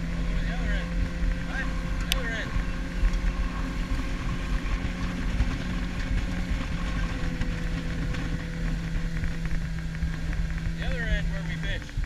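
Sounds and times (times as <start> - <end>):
boat motor humming: 0.0 - 12.0
water rushing along hull: 0.0 - 12.0
wind: 0.0 - 12.0.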